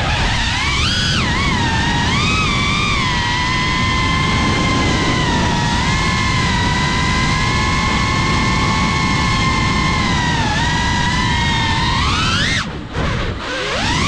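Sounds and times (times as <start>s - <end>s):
drone motors whining: 0.0s - 14.0s
wind rushing: 0.0s - 14.0s.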